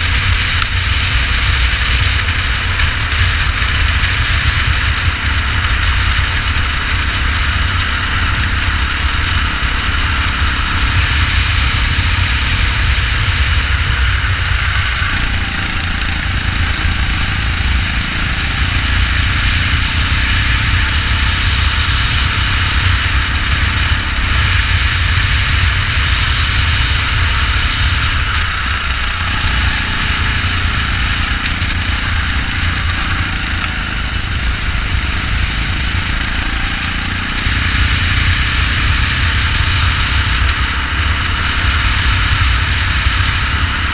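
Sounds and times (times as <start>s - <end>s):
go-kart engine running: 0.0s - 43.9s
heavy low rumble: 0.0s - 43.9s.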